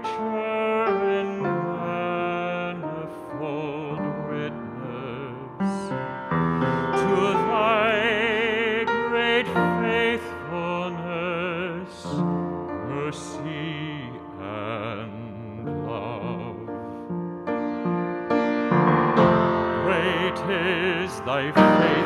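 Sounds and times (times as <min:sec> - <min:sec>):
person singing with vibrato: 0:00.0 - 0:17.1, 0:19.3 - 0:22.0
piano accompaniment: 0:00.0 - 0:22.0.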